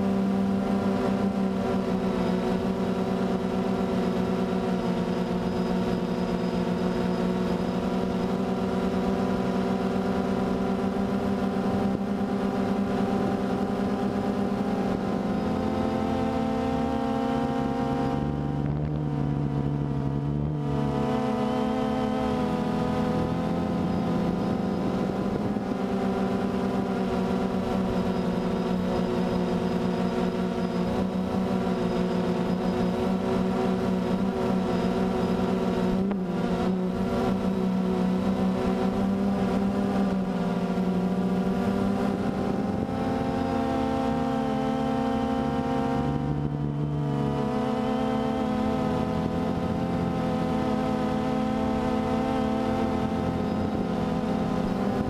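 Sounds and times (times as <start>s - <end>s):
drone propellers humming: 0.0s - 55.0s.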